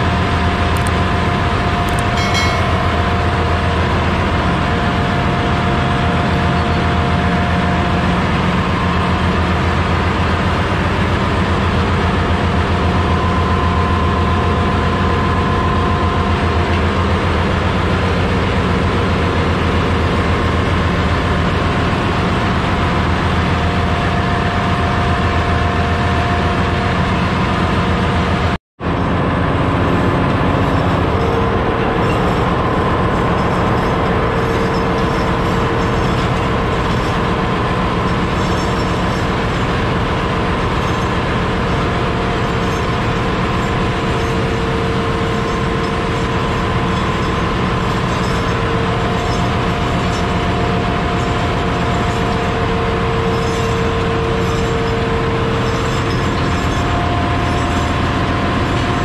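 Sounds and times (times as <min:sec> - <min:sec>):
diesel engine room machinery: 0:00.0 - 0:59.0.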